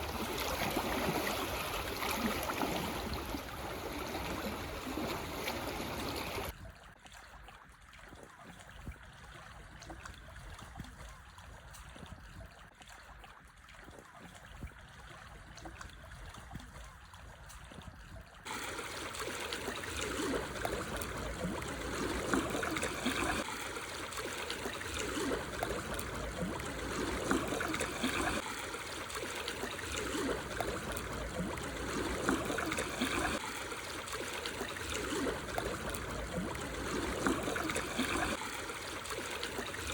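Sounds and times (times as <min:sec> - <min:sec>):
water trickling between rocks: 0:00.0 - 0:39.9.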